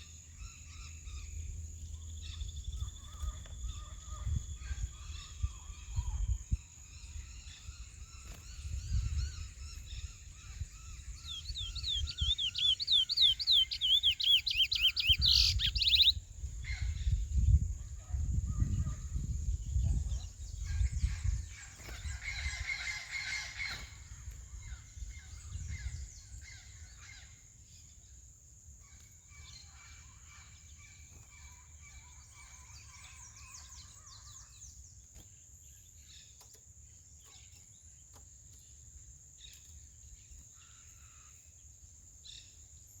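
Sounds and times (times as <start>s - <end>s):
finches chirping and trilling: 0.0s - 28.1s, 28.8s - 36.6s.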